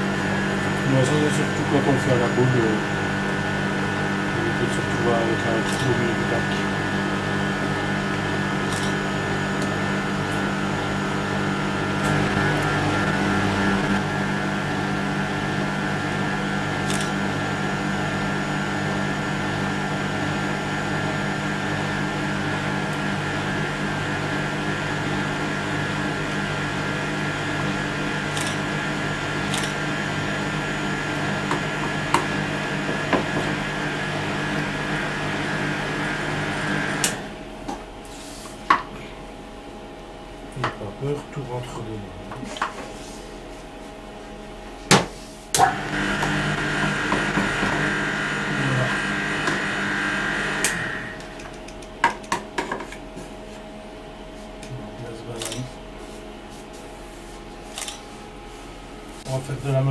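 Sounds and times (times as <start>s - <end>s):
ice cream machine running: 0.0s - 56.0s.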